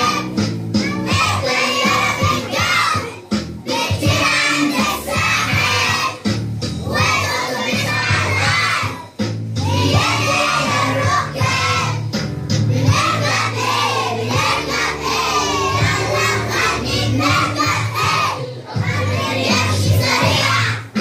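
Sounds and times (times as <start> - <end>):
children singing together: 0.0 - 12.1, 12.7 - 21.0
music track with bass line: 0.0 - 21.0.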